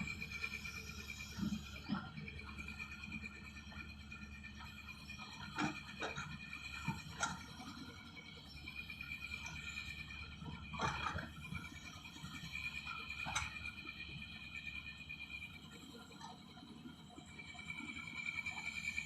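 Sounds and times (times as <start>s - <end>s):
excavator engine hum: 0.0s - 19.0s.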